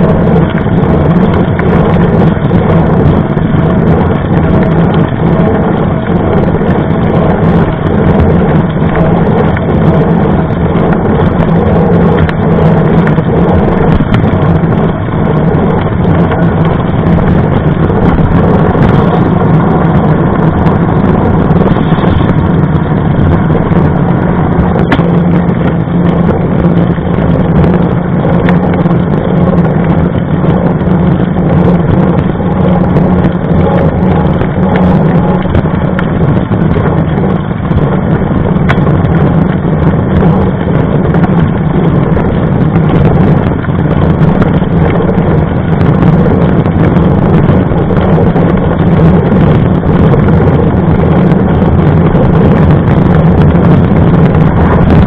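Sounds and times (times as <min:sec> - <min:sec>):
bike tyre humming on road: 0:00.0 - 0:55.0
wind rushing over microphone: 0:00.0 - 0:55.0.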